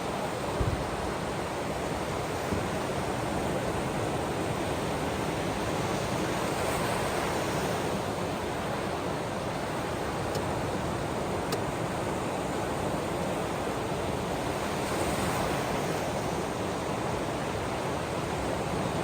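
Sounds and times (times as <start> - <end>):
ocean waves on shore: 0.0 - 19.0.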